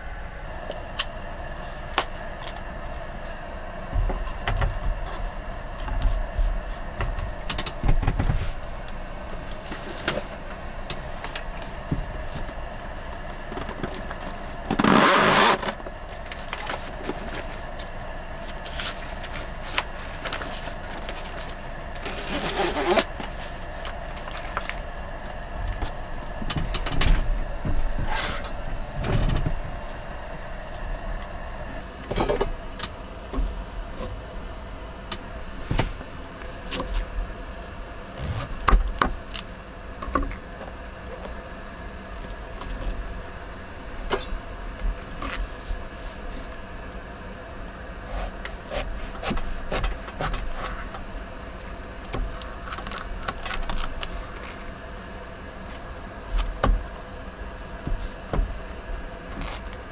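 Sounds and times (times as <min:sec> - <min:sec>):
faint hum: 0:00.0 - 0:59.9.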